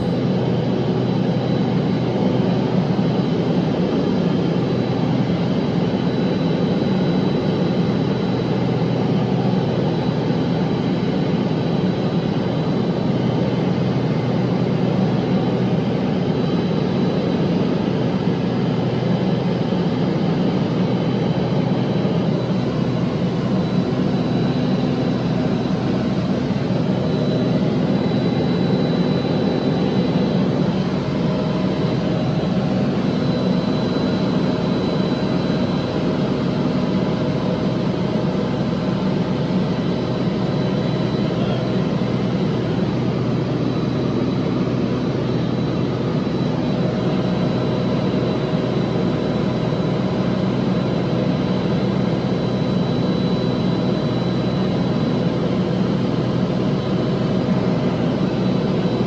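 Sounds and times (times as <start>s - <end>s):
light plane engine drone: 0.0s - 59.0s.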